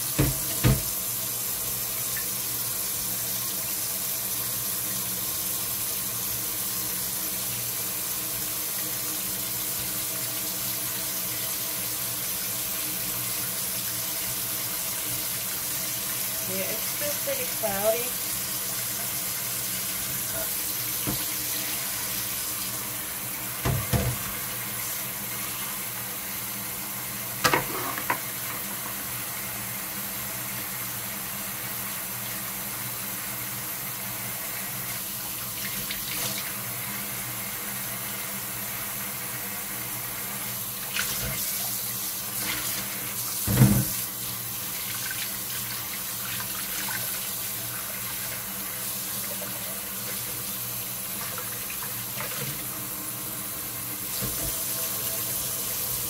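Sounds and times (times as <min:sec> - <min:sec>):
faucet running into sink: 0:00.0 - 0:29.4, 0:34.0 - 0:56.0.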